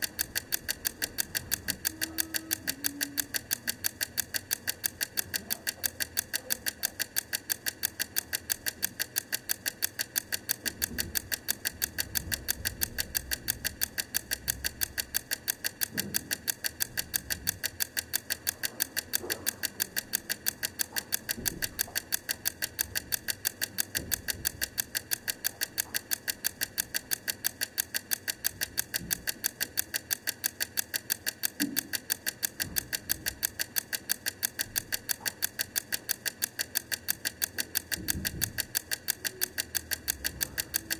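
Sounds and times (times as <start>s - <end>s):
egg timer clockwork ticking: 0.0s - 40.9s.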